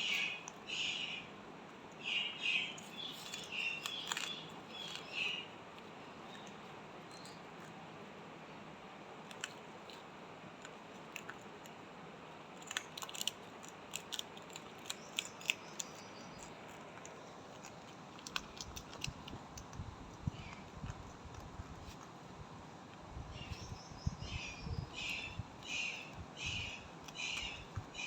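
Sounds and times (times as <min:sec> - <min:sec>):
parrot beak clicking and crunching: 0:00.0 - 0:08.2, 0:08.9 - 0:23.6, 0:24.3 - 0:28.0.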